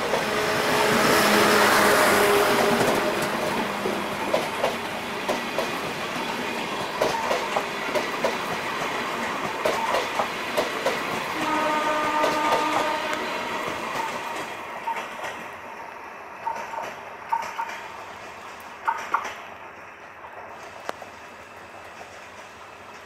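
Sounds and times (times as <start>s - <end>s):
train rushing past: 0.0s - 23.0s
wheels clicking over rail joints: 2.5s - 15.6s, 16.4s - 23.0s.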